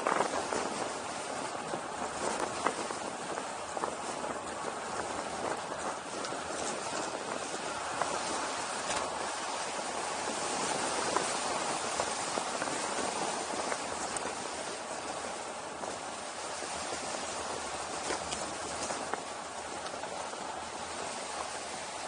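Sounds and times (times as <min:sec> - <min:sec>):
wind rushing past camera: 0:00.0 - 0:22.0.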